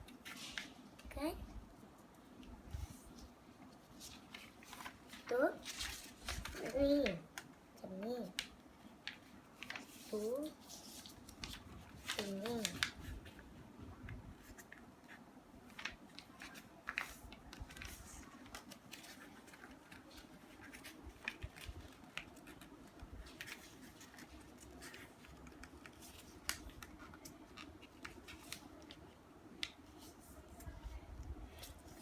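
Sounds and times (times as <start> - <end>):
paper folding and crinkling: 0.1 - 1.2, 1.8 - 32.0.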